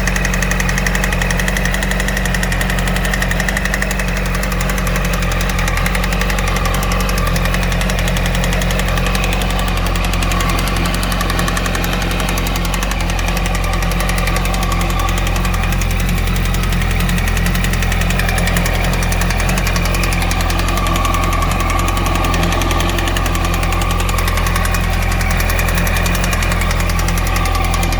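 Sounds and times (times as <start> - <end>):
fast even engine knocking: 0.0 - 27.9
motorcycle engine running: 0.0 - 27.9.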